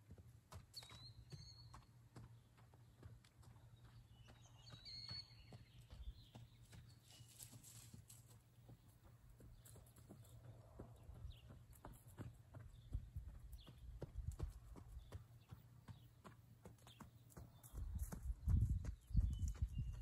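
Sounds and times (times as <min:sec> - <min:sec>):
distant horse hoofbeats: 0:00.0 - 0:20.0.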